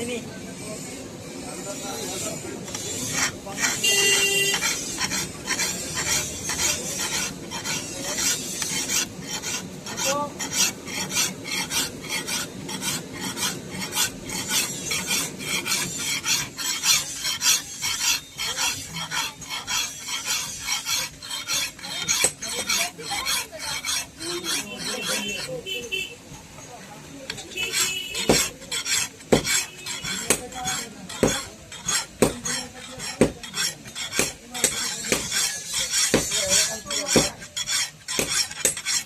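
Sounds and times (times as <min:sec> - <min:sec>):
knife sharpening strokes: 0:01.7 - 0:25.9, 0:27.3 - 0:39.0.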